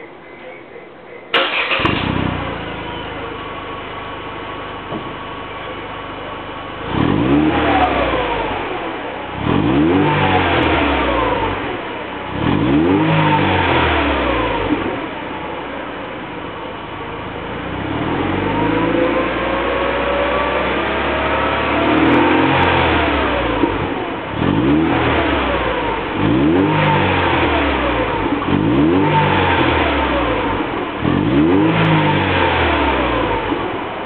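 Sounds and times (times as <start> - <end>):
car engine revving: 1.3 - 34.0.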